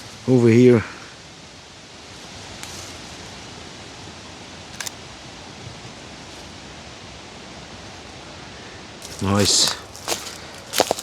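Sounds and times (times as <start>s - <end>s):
outdoor forest ambience hiss: 0.0s - 11.0s.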